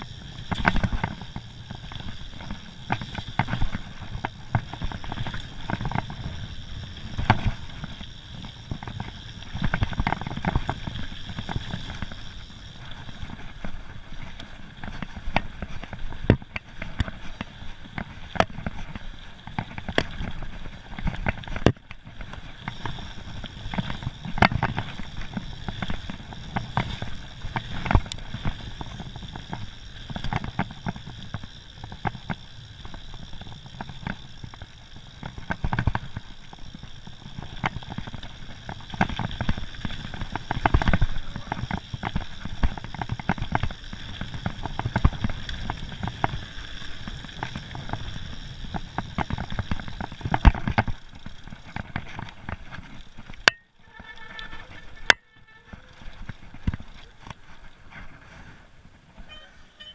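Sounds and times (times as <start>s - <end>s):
bike knocks and rattles: 0.0s - 58.2s
rumble of tyres on dirt: 0.0s - 59.9s
wind: 0.0s - 59.9s.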